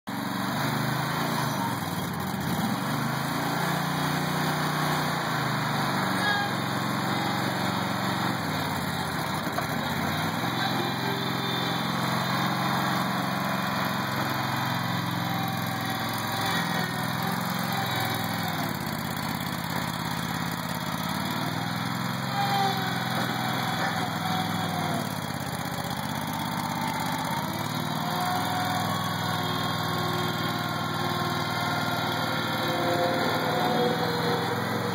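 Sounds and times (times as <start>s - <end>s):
backhoe engine running: 0.1s - 34.9s.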